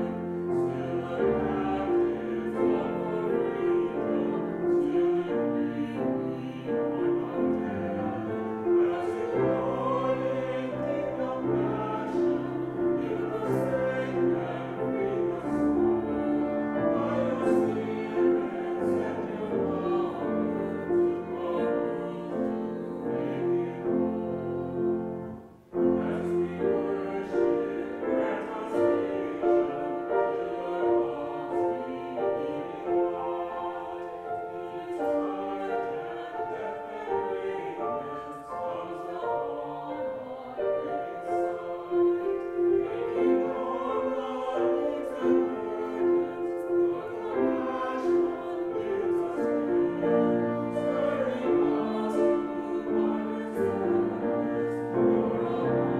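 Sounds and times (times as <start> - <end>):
grand piano playing a hymn: 0.0 - 55.9.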